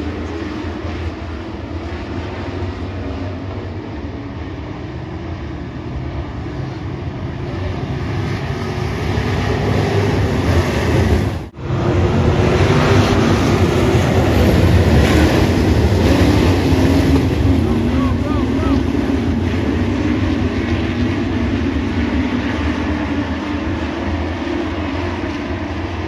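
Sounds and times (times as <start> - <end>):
race truck engines: 0.0 - 26.0.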